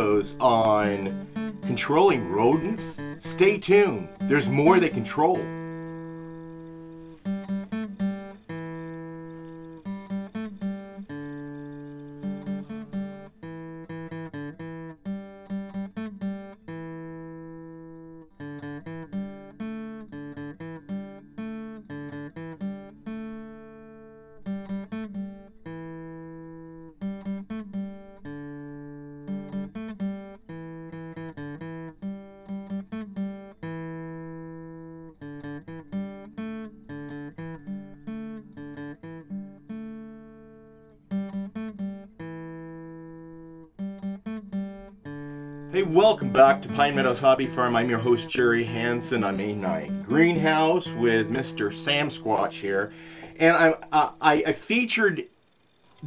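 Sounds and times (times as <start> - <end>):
acoustic guitar music: 0.0 - 56.0.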